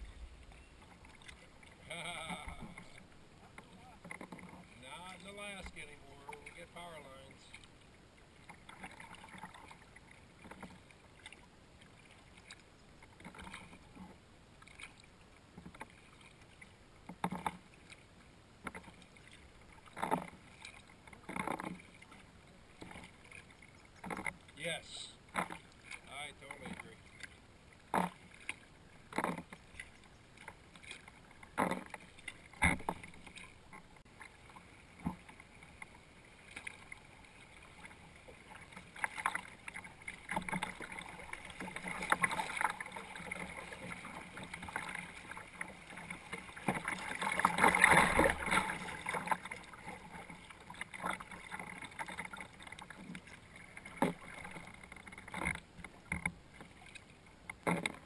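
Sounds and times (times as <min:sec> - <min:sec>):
paddle knocks and splashes: 0:00.0 - 0:07.7, 0:08.4 - 0:24.6, 0:25.2 - 0:58.0.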